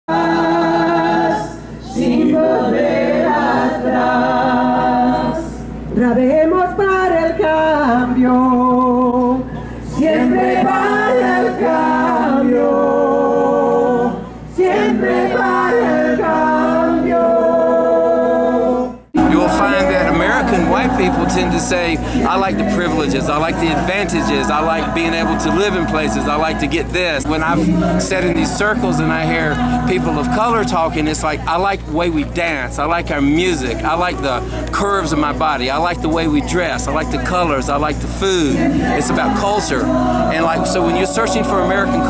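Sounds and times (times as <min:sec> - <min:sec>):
group singing in harmony: 0:00.1 - 0:42.0.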